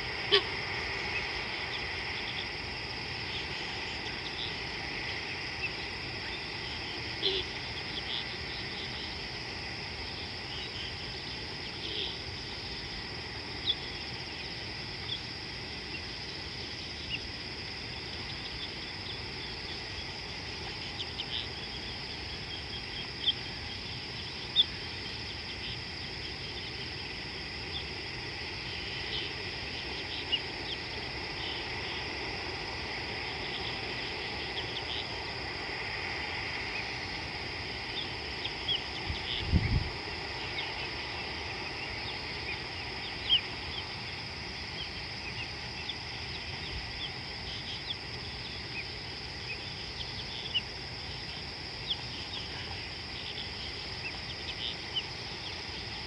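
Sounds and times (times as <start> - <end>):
crickets chorus: 0.0 - 56.0.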